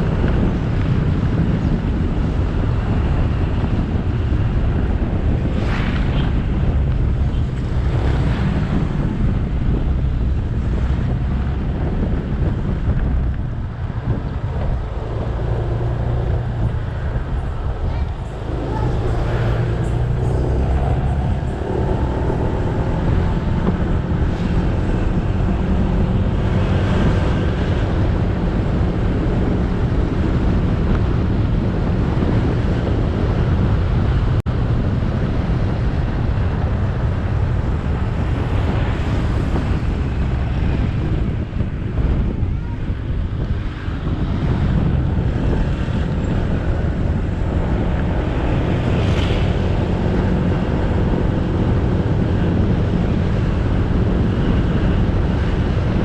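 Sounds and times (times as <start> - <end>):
tyre and road noise: 0.0 - 56.0
wind buffeting microphone: 0.0 - 56.0.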